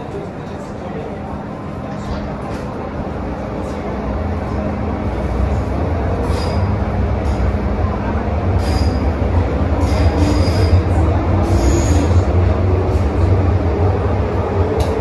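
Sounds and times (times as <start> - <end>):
wheels rumbling on track: 0.0 - 15.0.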